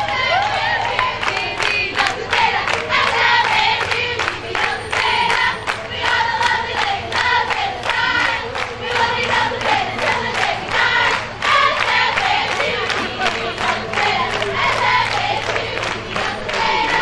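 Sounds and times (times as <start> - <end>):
people clapping a steady beat: 0.0 - 17.0
women singing in unison: 0.0 - 17.0.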